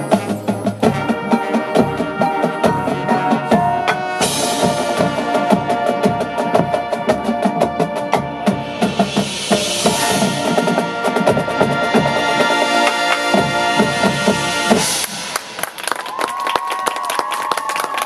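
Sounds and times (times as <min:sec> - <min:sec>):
wind instruments sustaining chords: 0:00.0 - 0:16.0
drumline percussion hits: 0:00.0 - 0:18.0.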